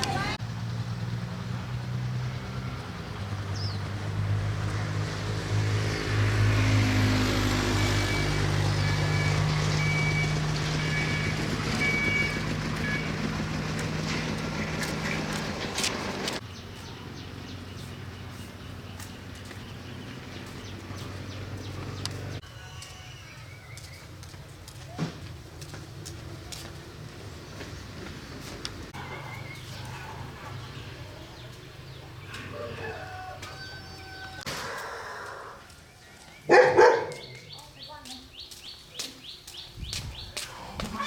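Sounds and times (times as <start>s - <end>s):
vehicle engine humming: 0.0s - 22.5s, 23.6s - 34.5s.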